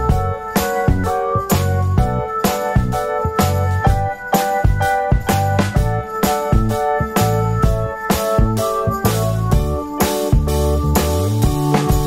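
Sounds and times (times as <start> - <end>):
bass line: 0.0 - 12.0
drum beat: 0.0 - 12.0
keyboard melody: 0.0 - 12.0.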